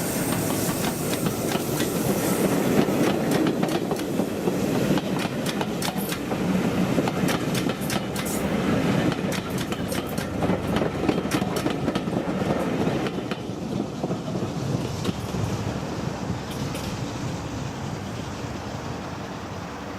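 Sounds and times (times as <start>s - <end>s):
train rumble: 0.0s - 19.9s
train wheels clacking on rail joints: 0.0s - 19.9s.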